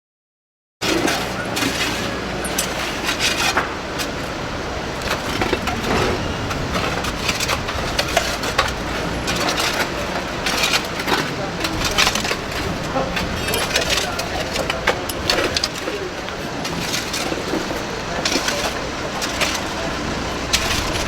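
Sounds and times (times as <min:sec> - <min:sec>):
low engine hum: 0:01.1 - 0:21.0.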